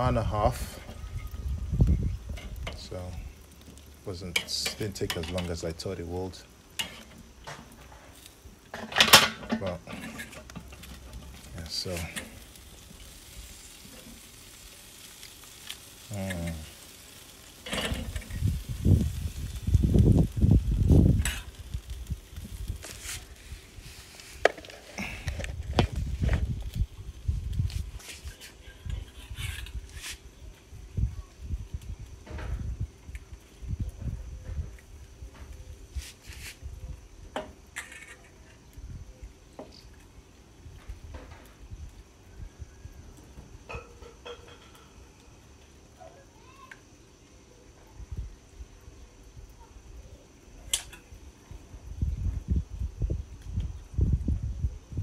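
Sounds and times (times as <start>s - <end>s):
chicken sizzling on grill: 0.0s - 55.0s.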